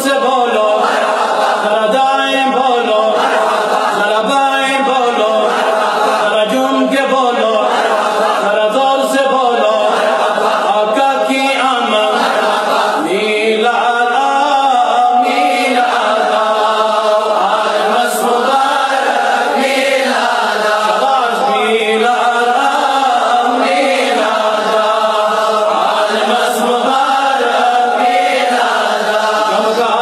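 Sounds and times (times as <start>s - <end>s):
person chanting melodically: 0.0s - 30.0s.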